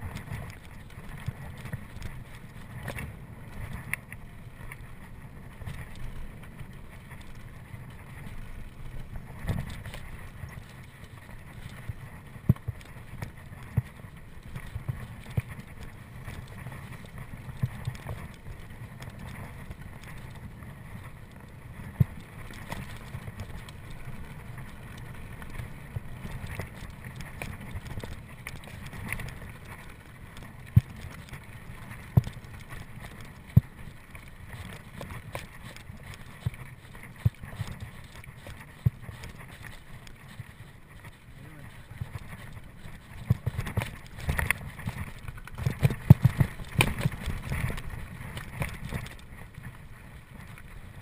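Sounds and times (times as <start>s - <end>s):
bike tyres rumbling on dirt: 0.0s - 51.0s.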